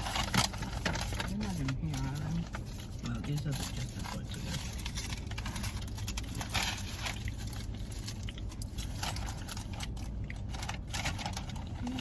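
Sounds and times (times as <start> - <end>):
chewing crunchy chips: 0.0 - 12.0
steady low rumble: 0.0 - 12.0.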